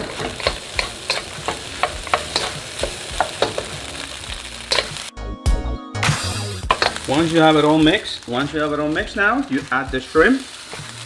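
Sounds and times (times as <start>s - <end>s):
food sizzling in a wok: 0.0s - 5.1s, 6.2s - 11.0s
utensil scraping a pan: 0.0s - 5.1s, 6.7s - 11.0s.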